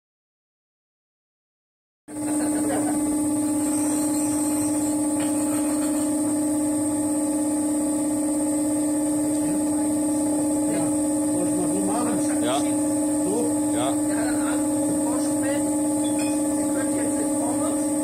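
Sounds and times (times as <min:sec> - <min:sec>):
electric machine hum: 0:02.1 - 0:18.0.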